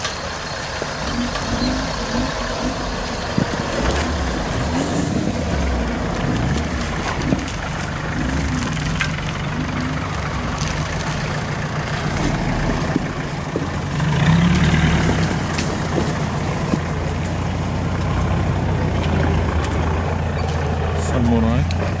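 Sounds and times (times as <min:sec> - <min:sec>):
branches clicking and snapping: 0:00.0 - 0:22.0
off-road engines running: 0:00.0 - 0:22.0.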